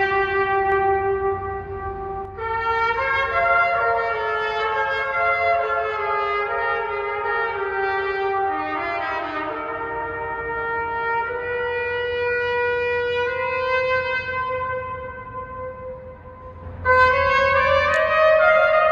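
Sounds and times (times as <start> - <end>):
trumpet playing slow tune: 0.0 - 18.9.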